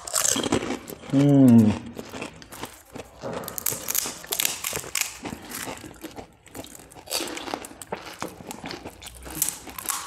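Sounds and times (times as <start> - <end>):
crisp shells crackling and crunching: 0.0 - 10.0.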